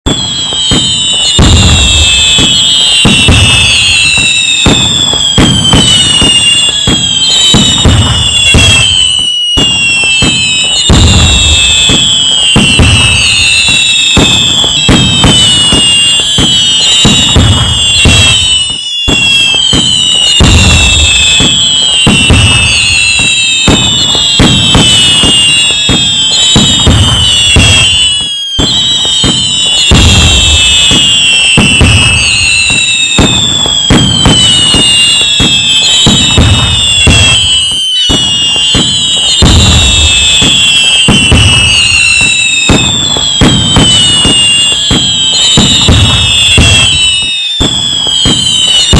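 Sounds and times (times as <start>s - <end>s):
falling firework whistles: 0.0s - 48.9s
fireworks bangs and crackles: 0.0s - 48.9s.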